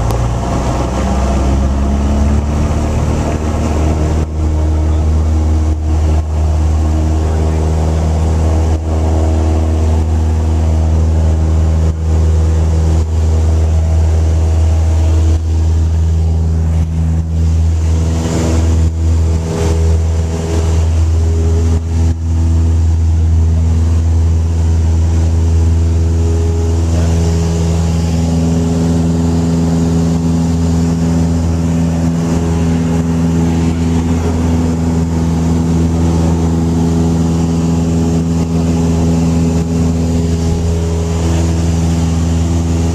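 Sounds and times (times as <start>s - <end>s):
aircraft engine drone in cabin: 0.0s - 42.9s.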